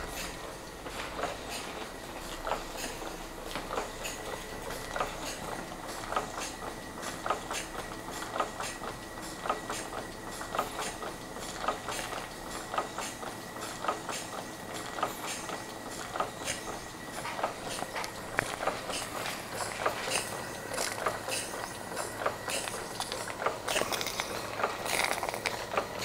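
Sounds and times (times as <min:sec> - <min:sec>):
steam engine strokes: 0:00.0 - 0:26.0.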